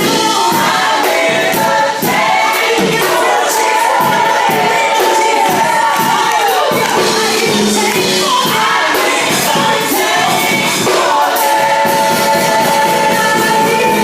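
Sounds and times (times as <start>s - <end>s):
gospel band playing: 0.0s - 14.0s
singers holding long notes: 0.0s - 14.0s.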